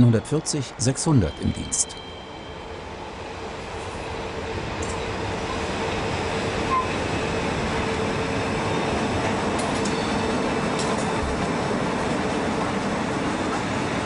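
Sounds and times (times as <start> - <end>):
locomotive hum: 0.0 - 14.0
train wheels rumbling on rail: 2.6 - 14.0.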